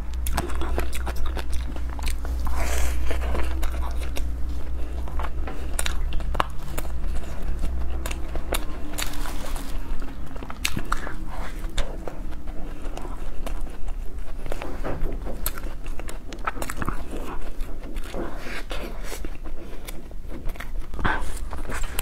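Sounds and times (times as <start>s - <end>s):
person chewing ice cream: 0.0s - 22.0s.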